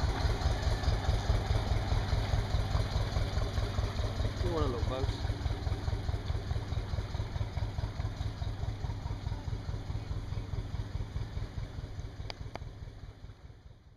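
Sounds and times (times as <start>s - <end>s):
boat diesel engine chugging: 0.0s - 13.9s.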